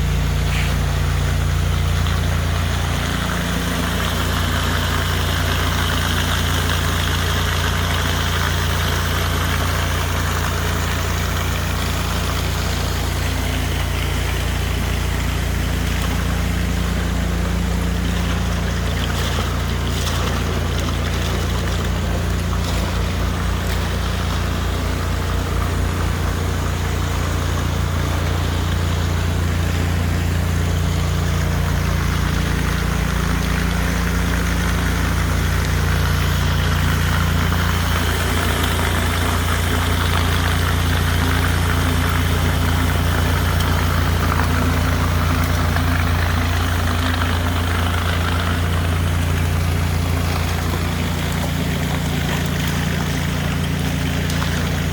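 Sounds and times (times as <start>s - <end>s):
pressure washer humming: 0.0s - 54.9s
water jets hissing on floor: 0.0s - 54.9s.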